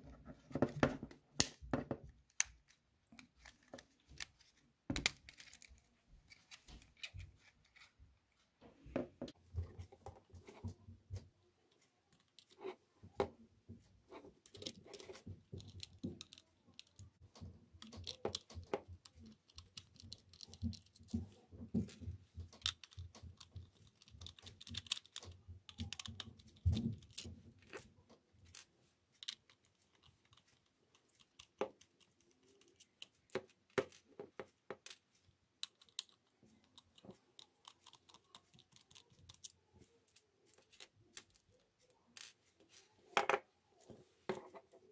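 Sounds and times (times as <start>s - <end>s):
plastic parts being handled: 0.1s - 8.0s, 9.0s - 44.9s.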